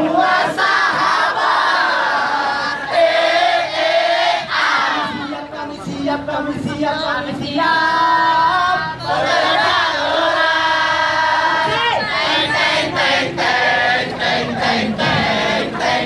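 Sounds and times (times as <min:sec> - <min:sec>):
group singing and chanting a cheer: 0:00.0 - 0:16.0.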